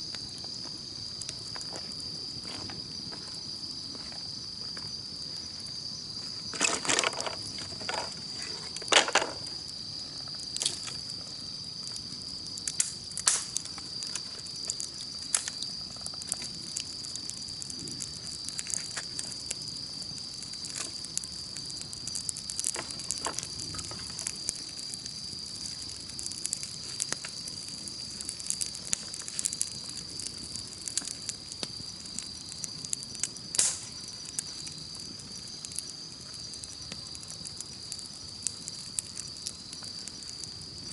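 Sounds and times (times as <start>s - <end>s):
campfire crackling and popping: 0.0s - 40.9s
insects chirping: 0.0s - 40.9s.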